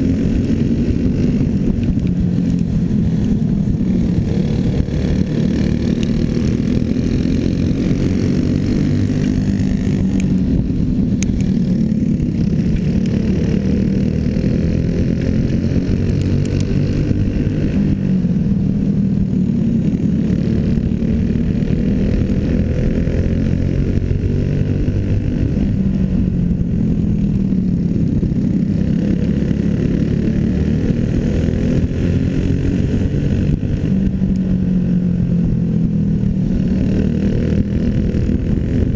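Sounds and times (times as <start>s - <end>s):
small racing engine running hard: 0.0s - 38.9s.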